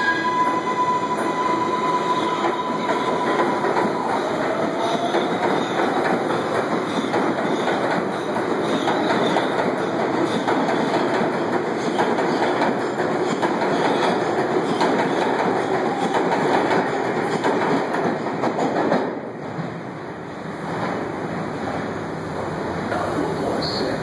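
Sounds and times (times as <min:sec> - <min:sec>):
subway train passing at speed: 0:00.0 - 0:24.0.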